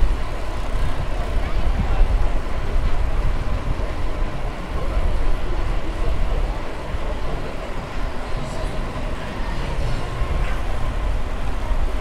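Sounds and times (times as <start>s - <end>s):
bicycle tyres rolling on pavement: 0.0s - 12.0s
wind rushing past ears: 0.0s - 12.0s.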